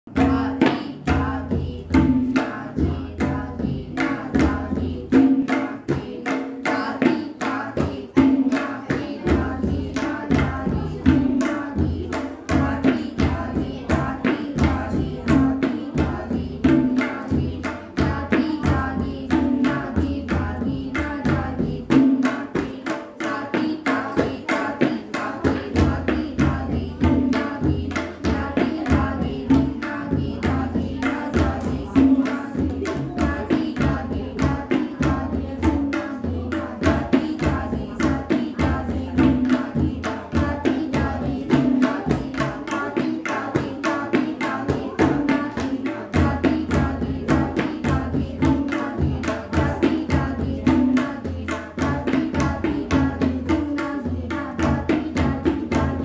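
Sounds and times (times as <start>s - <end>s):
tabla drums playing: 0.1s - 56.0s.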